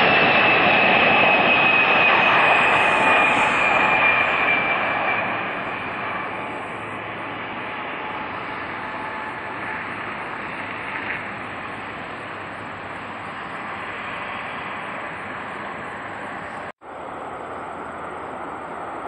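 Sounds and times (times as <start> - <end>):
jet engines rushing on landing: 0.0 - 19.0.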